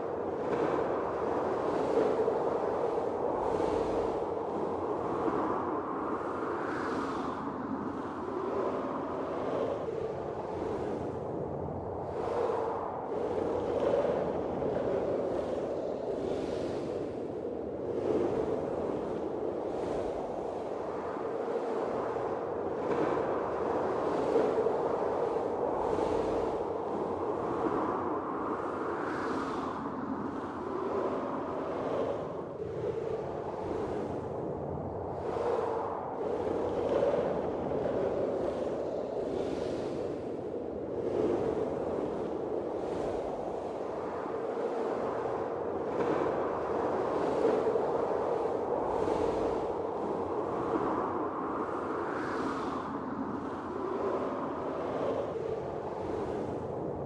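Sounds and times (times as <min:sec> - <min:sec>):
blizzard wind rushing: 0:00.0 - 0:57.0.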